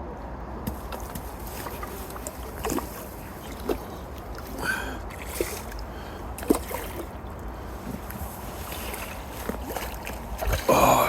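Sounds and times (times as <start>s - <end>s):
water splashing: 0.7s - 11.0s.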